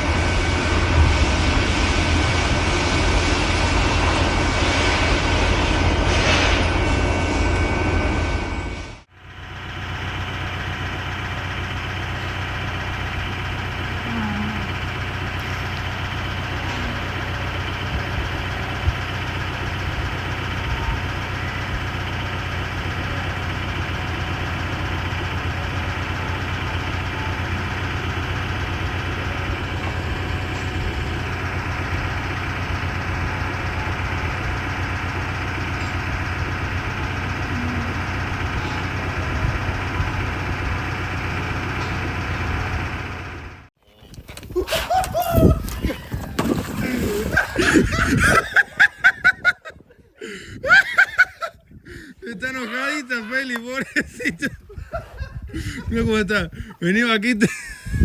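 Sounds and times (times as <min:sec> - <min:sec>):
engine running steadily: 0:00.0 - 0:49.6, 0:50.2 - 0:58.0.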